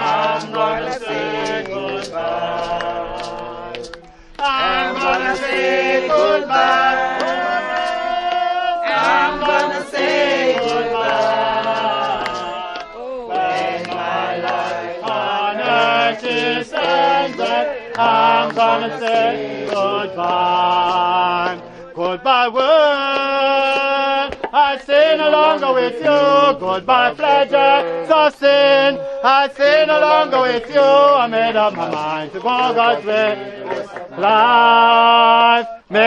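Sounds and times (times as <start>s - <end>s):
crowd singing a hymn: 0.0s - 36.0s.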